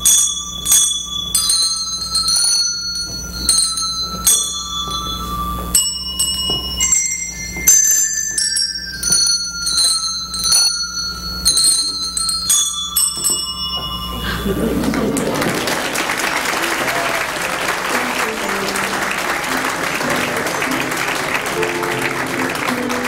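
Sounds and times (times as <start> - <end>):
handbells playing a simple tune: 0.0 - 23.0.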